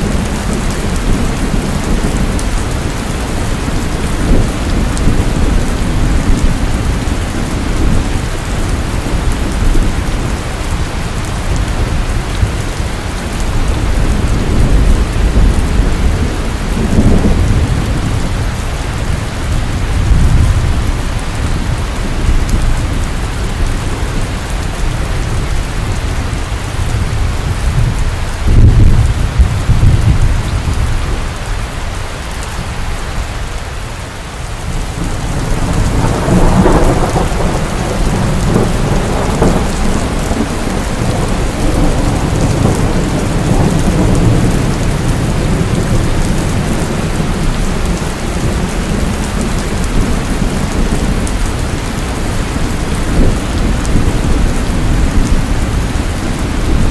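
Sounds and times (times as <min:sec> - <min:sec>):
rolling thunder: 0:00.0 - 0:31.5, 0:34.6 - 0:56.9
heavy rain: 0:00.0 - 0:56.9.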